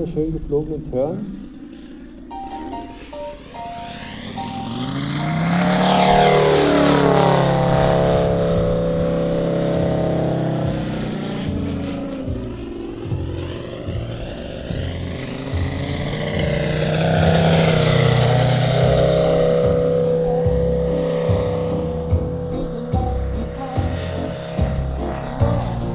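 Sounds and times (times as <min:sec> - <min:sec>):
model plane radial engine: 0:00.0 - 0:25.9.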